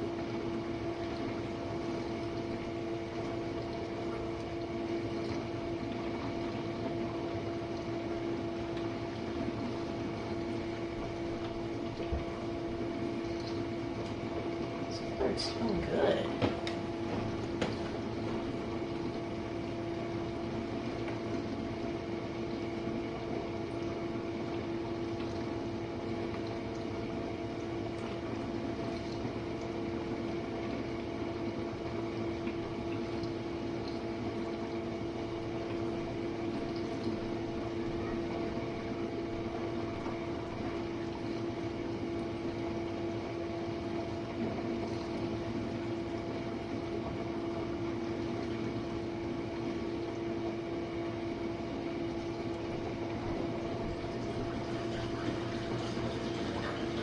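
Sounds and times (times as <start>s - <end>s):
dishwasher pump hum: 0.0s - 57.0s.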